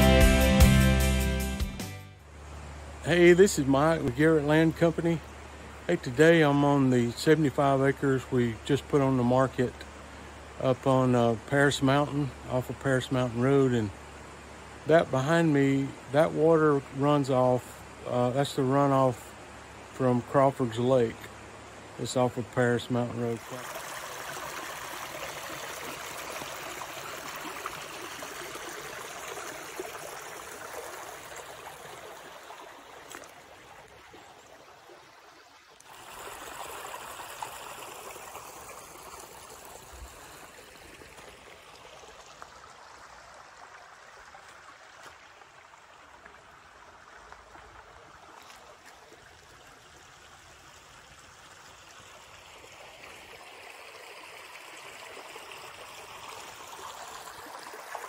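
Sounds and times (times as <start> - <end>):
creek water trickling over rock: 2.4 - 58.0.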